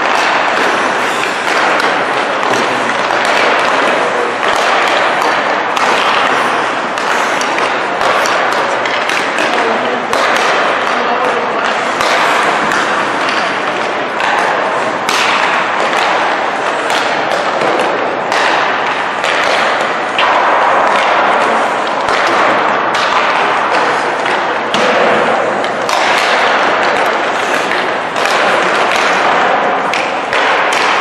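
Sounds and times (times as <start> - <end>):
hockey sticks striking pucks: 0.0 - 31.0
pucks thudding against boards: 0.0 - 31.0
skates scraping on ice: 0.0 - 31.0.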